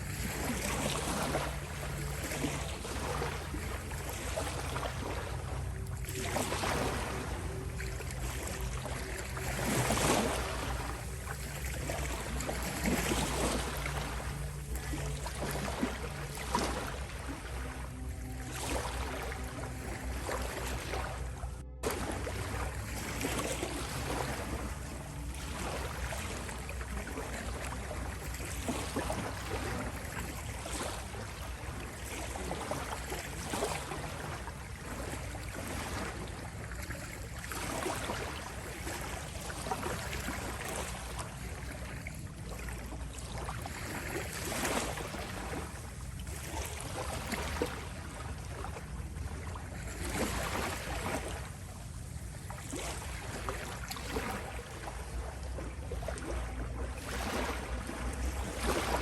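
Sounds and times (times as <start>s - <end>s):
ocean waves washing: 0.0s - 59.0s
steady low hum: 0.0s - 59.0s.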